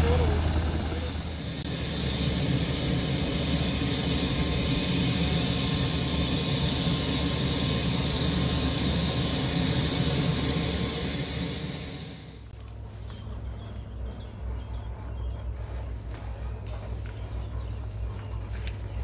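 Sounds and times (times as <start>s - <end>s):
helicopter engines running: 0.0s - 19.0s
helicopter rotors turning: 0.0s - 19.0s.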